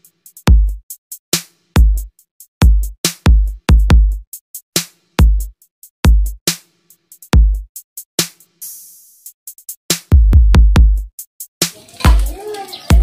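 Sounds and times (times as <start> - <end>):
electronic music with drum beat: 0.0 - 13.0.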